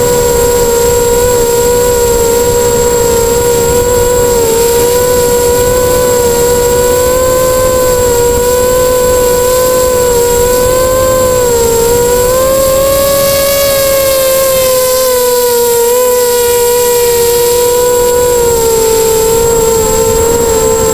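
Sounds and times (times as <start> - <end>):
drone motors whining: 0.0 - 20.9.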